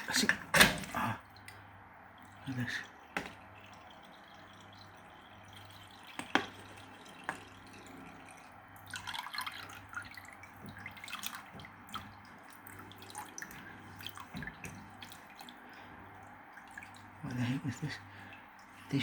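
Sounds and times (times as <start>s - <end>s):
low steady hum: 0.0s - 19.0s
water dripping and splashing: 0.1s - 19.0s.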